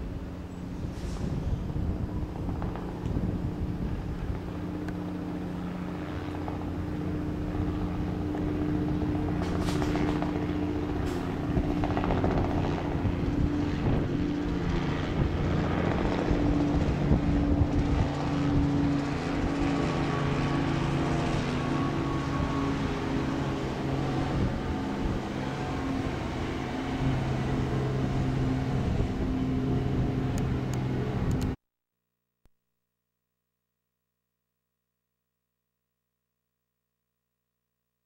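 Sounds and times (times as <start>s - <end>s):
engines droning: 0.0s - 31.6s.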